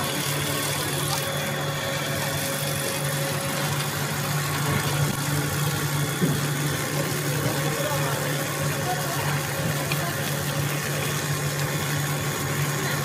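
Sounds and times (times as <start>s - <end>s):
food extruder machine humming: 0.0s - 13.0s
high machine whine: 0.0s - 13.0s.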